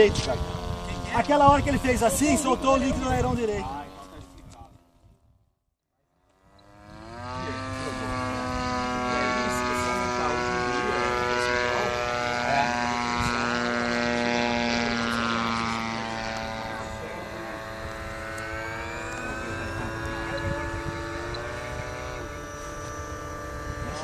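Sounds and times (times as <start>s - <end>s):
model airplane engine: 0.0s - 5.4s, 6.0s - 24.0s.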